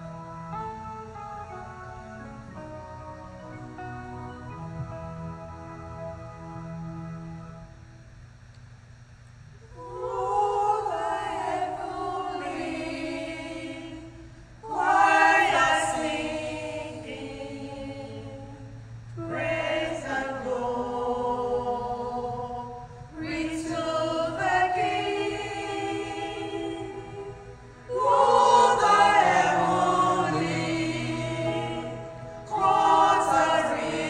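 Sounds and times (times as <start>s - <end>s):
church choir singing a carol: 0.0s - 7.1s, 9.7s - 34.0s.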